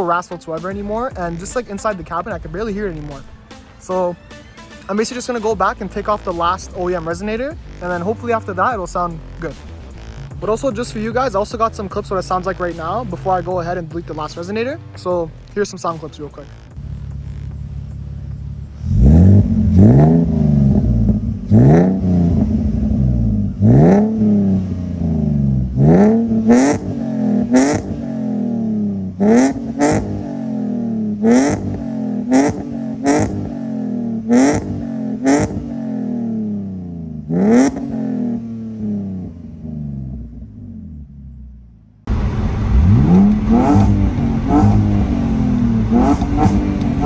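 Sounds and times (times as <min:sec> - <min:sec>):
car engine revving: 0:05.0 - 0:47.0.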